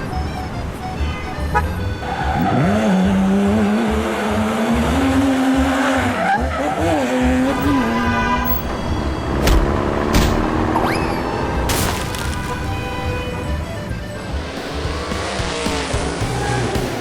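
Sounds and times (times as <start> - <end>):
low pulsing beat: 0.0 - 10.8, 12.6 - 17.0
vehicle engine revving: 0.0 - 17.0.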